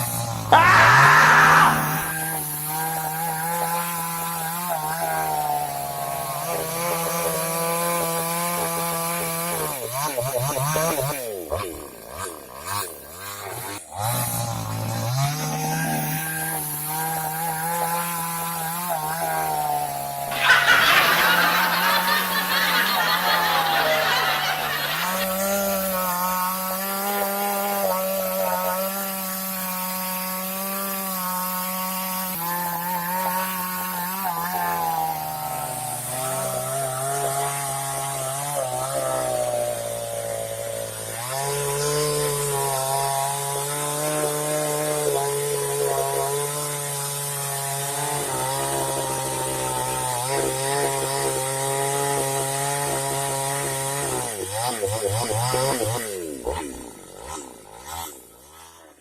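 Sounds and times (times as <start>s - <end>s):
chainsaw running: 0.0s - 59.0s.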